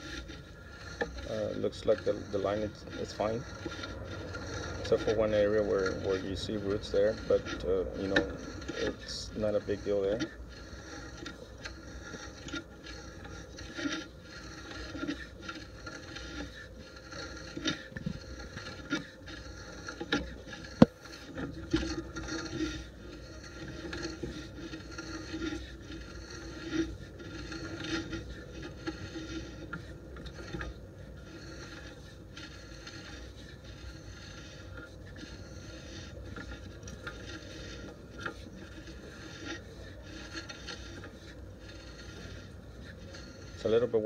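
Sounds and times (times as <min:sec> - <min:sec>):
cable scraping against pipe: 0:00.0 - 0:44.0.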